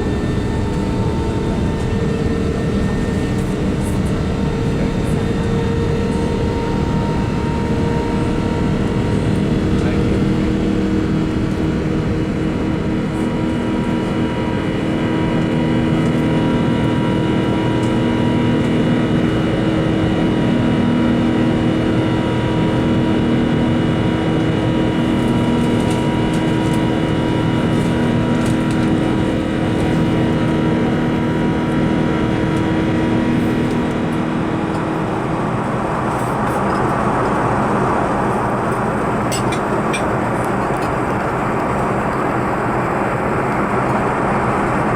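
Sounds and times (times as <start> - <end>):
jet engine cabin drone: 0.0 - 44.9.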